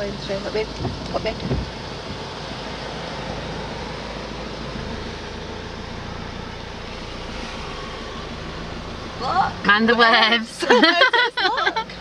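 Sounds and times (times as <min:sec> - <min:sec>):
low car engine hum: 0:00.0 - 0:12.0
tyres hissing on wet road: 0:00.1 - 0:11.3.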